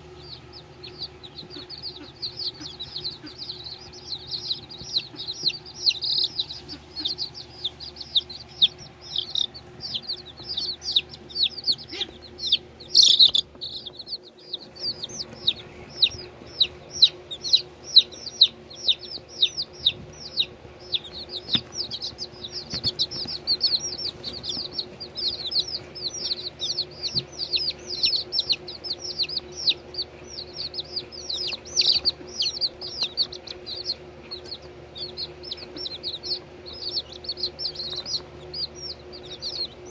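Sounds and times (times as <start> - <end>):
chicks peeping: 0.0 - 39.9
low hum: 0.0 - 39.9.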